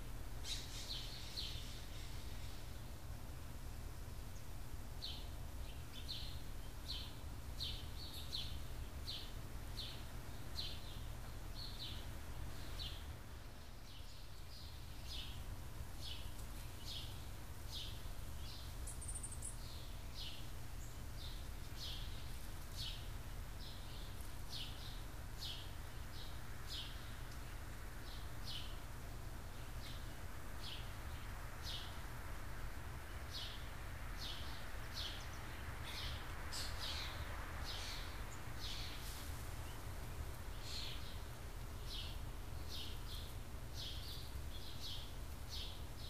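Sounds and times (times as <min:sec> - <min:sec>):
songbird chirping: 0:00.0 - 0:46.0.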